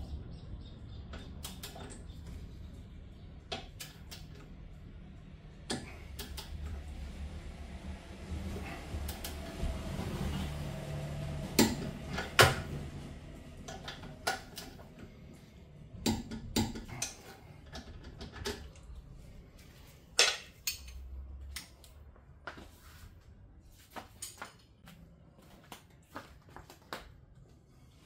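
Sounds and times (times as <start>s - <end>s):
low hum: 0.0s - 22.4s.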